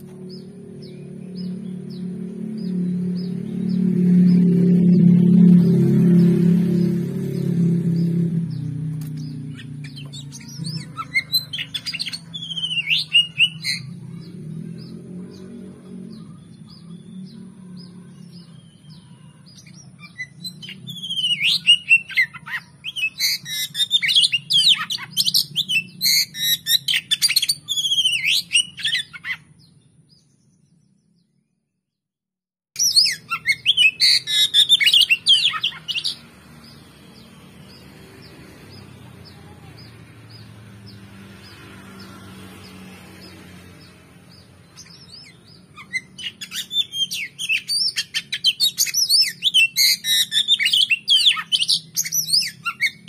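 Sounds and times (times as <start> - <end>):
bird singing: 0.0 - 31.8, 32.8 - 53.0.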